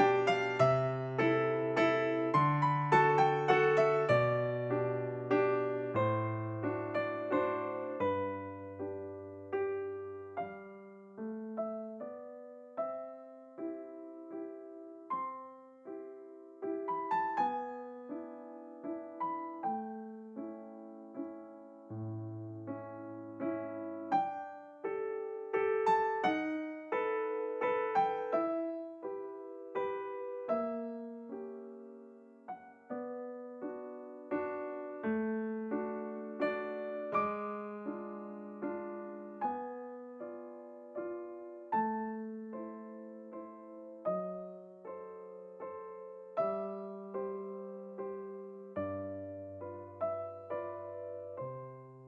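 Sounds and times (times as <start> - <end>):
solo piano piece: 0.0 - 52.0.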